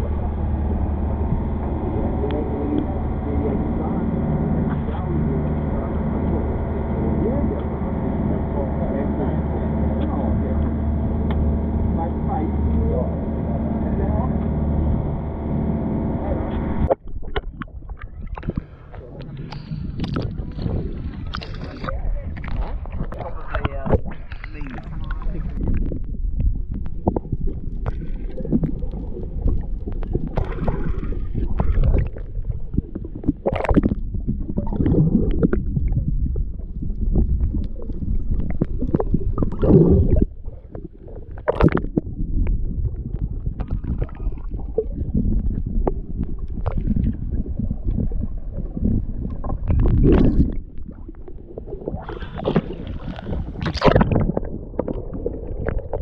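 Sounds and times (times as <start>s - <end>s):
muffled water sloshing and gurgling: 0.0s - 56.0s
splashing and bubbles: 0.0s - 56.0s.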